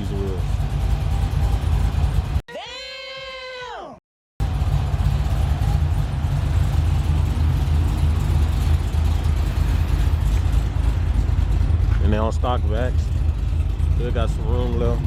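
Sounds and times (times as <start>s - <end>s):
car engine rumbling: 0.0s - 2.4s, 4.4s - 15.0s.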